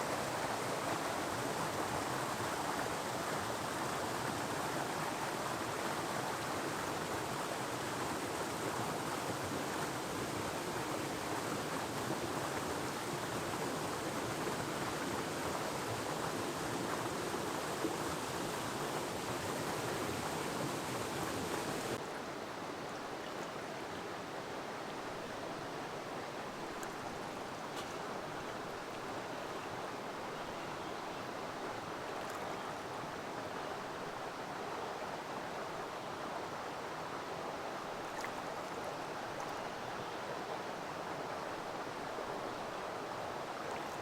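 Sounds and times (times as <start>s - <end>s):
water rushing in a creek: 0.0s - 44.0s.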